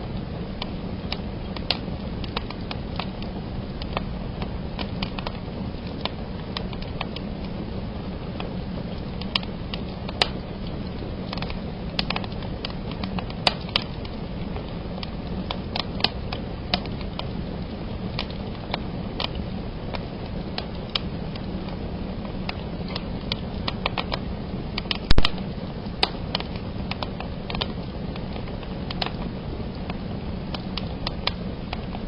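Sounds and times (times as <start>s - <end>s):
rumble of fire flames: 0.0s - 32.0s
wood fire cracking and popping: 0.0s - 32.0s.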